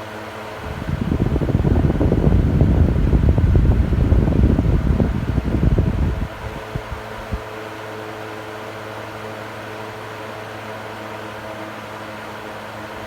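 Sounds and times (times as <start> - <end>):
electric fan motor hum: 0.0 - 13.0.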